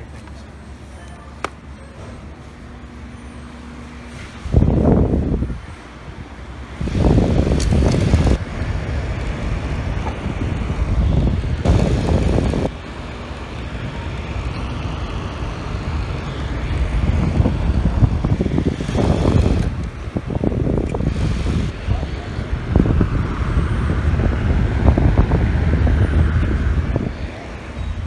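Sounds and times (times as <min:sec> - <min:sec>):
fan wind noise on microphone: 0:02.2 - 0:28.0.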